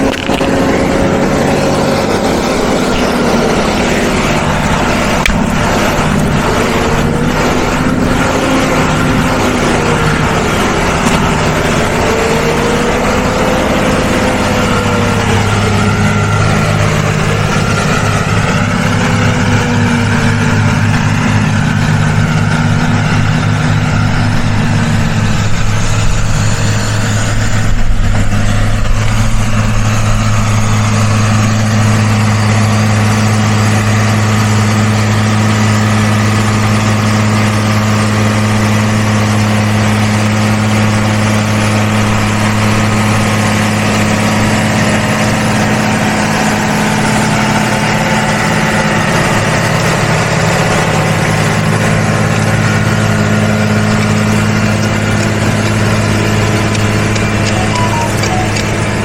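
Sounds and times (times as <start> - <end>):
diesel tractor engine drone: 0.0 - 59.0.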